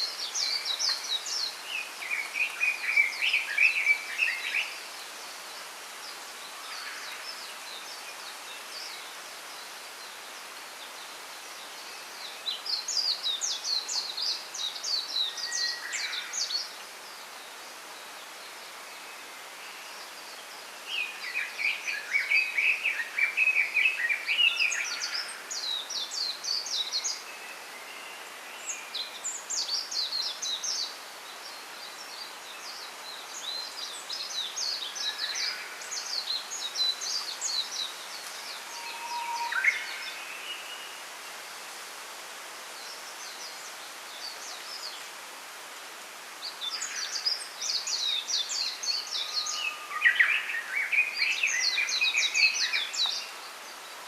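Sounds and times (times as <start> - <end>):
small songbirds chirping: 0.0 - 54.0
steady background hiss: 0.0 - 54.0.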